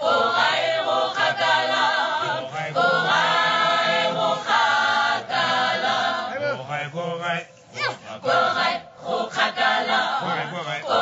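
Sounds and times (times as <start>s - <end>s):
mixed choir singing a cappella: 0.0s - 11.0s.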